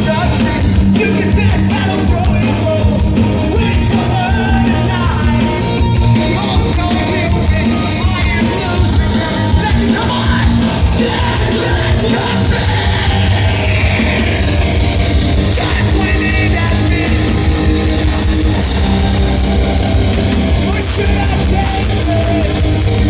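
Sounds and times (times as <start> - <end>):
drums: 0.0 - 23.0
heavy rock band playing: 0.0 - 23.0.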